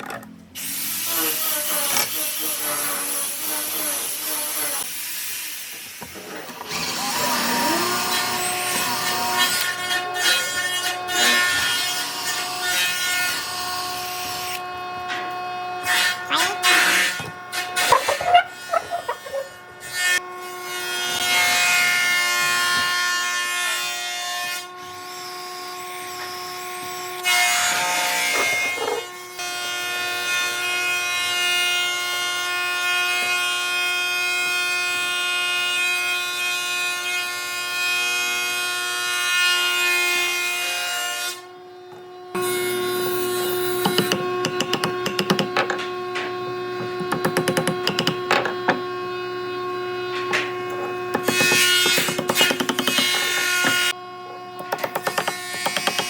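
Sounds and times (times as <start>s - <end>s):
power tool cutting wood: 0.6s - 56.0s.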